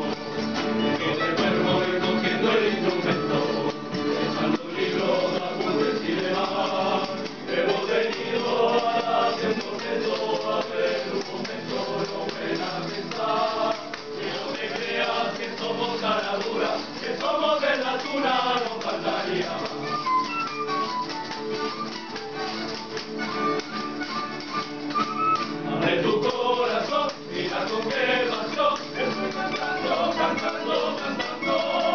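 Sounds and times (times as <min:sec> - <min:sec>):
male chorus singing: 0:00.0 - 0:20.1, 0:25.4 - 0:31.9
strummed guitars: 0:00.0 - 0:31.9.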